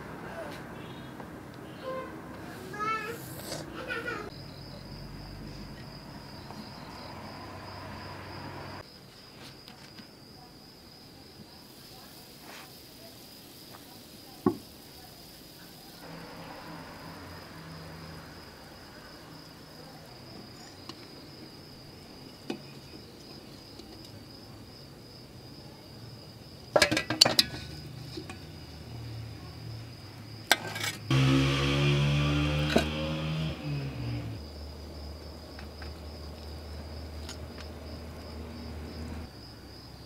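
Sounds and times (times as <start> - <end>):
crickets chirping: 0.0 - 31.1, 31.9 - 40.0.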